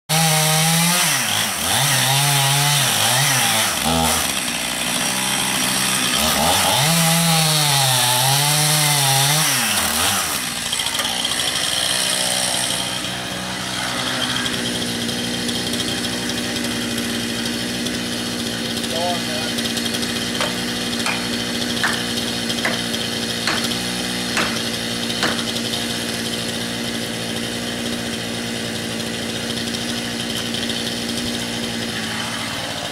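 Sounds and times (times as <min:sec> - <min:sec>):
chainsaw cutting wood: 0:00.1 - 0:32.9.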